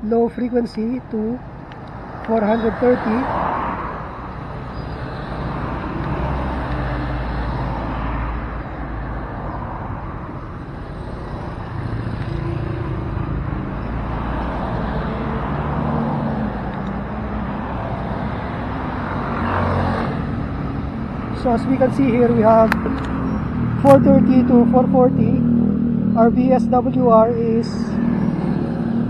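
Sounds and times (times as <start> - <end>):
road noise: 0.0 - 29.0
traffic engine rumble: 0.0 - 29.0.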